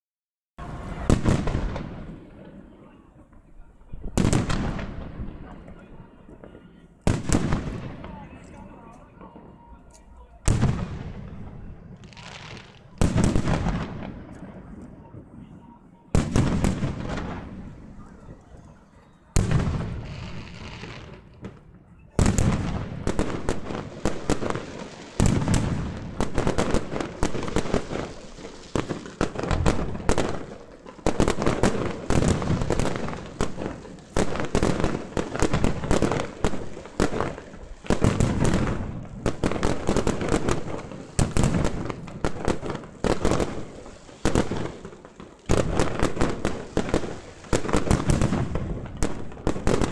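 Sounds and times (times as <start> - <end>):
fireworks barrage of bangs: 0.6 - 18.4, 19.2 - 49.9
fireworks bursts: 0.6 - 49.9.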